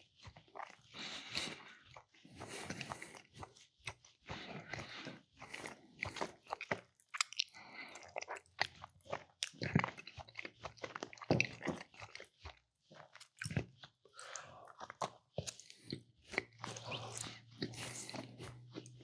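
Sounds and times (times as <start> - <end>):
person chewing and biting food: 0.3 - 19.0.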